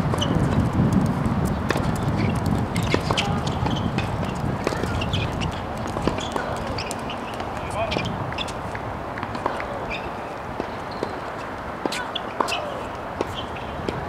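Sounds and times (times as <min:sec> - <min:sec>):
wind rumble on microphone: 0:00.0 - 0:11.8, 0:12.9 - 0:14.0
tennis balls struck and bouncing: 0:01.6 - 0:14.0.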